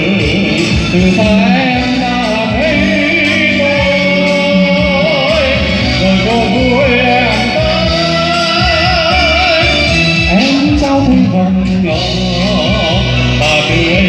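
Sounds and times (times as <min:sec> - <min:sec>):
amplified backing music: 0:00.0 - 0:14.0
man singing into a microphone: 0:00.0 - 0:14.0.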